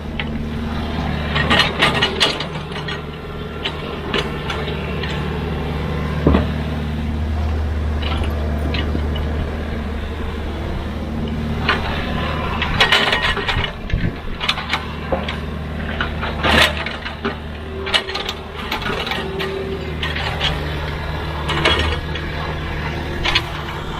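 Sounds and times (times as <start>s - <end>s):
metal clanks and knocks: 0.0s - 9.8s, 11.2s - 23.9s
diesel engine running: 0.0s - 23.9s.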